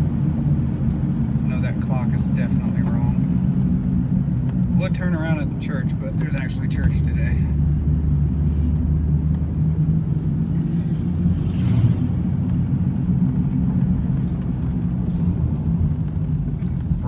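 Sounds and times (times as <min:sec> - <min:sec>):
car engine drone inside cabin: 0:00.0 - 0:17.0
road noise: 0:00.0 - 0:17.0.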